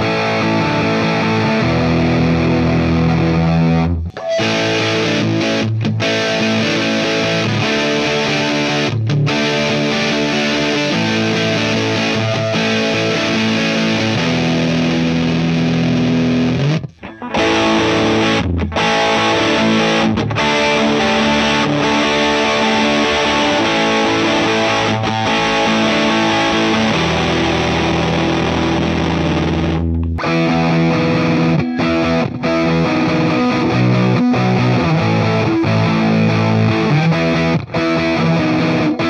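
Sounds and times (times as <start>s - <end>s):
distorted electric guitar: 0.0s - 39.0s.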